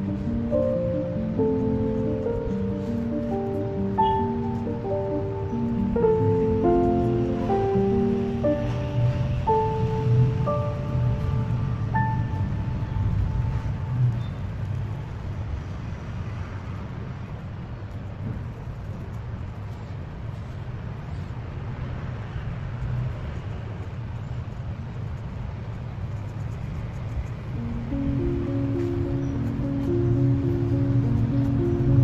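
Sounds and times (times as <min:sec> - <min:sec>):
low rumbling background noise: 0:00.0 - 0:32.0.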